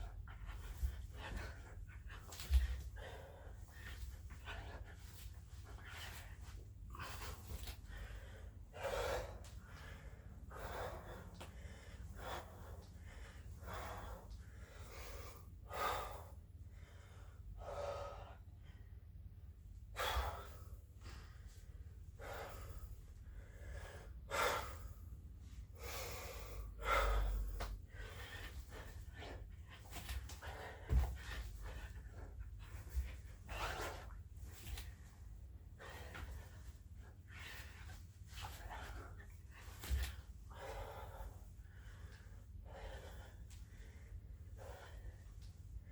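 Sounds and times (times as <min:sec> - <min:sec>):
man breathing hard: 0:00.0 - 0:19.1, 0:19.9 - 0:45.9
steady low hum: 0:00.0 - 0:45.9.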